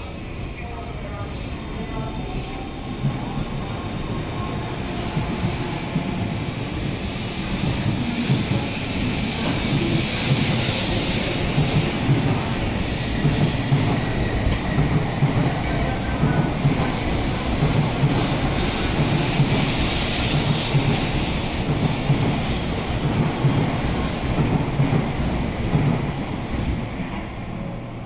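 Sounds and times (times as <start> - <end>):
rhythmic knocking of train wheels: 0.0 - 28.0
train rolling past: 0.0 - 28.0.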